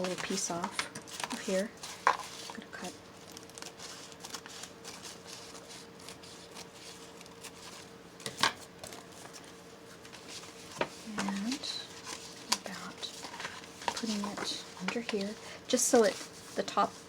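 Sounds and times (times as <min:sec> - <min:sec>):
paper and lace rustling: 0:00.0 - 0:08.0, 0:08.8 - 0:17.0.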